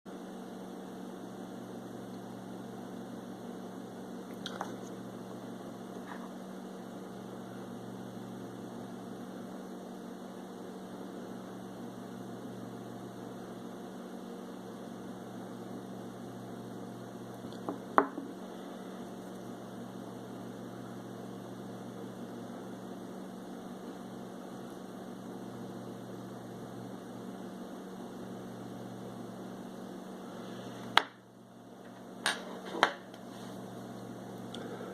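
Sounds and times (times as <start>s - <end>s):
low electrical hum: 0.1s - 34.9s.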